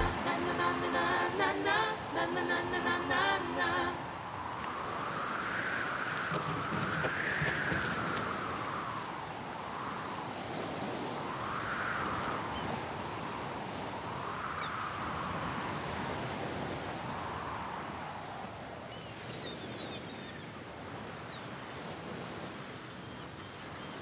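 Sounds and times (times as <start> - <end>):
sea surf washing on shore: 0.0 - 24.0.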